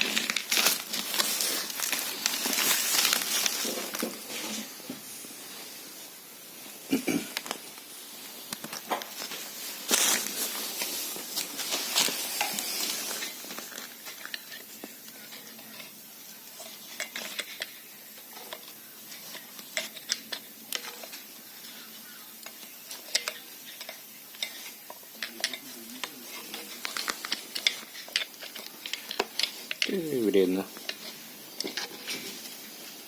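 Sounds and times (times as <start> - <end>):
rustling scraping noise: 0.0 - 33.0.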